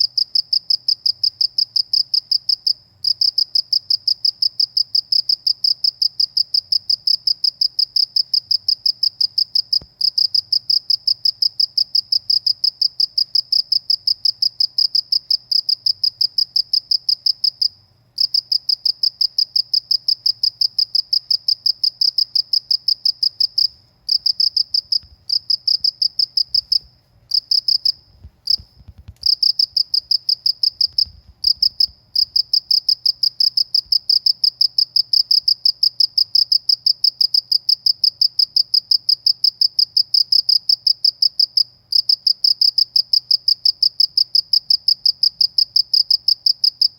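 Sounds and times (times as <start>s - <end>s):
cricket chirping: 0.0s - 46.9s.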